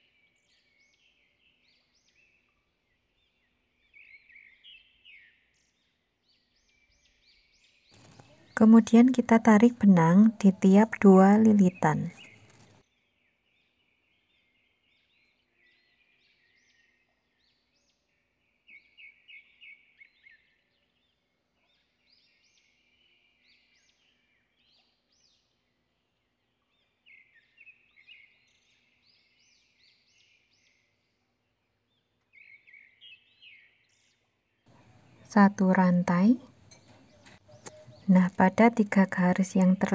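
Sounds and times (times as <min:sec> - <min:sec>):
faint high bird chirps: 0:00.0 - 0:25.6, 0:32.0 - 0:39.9.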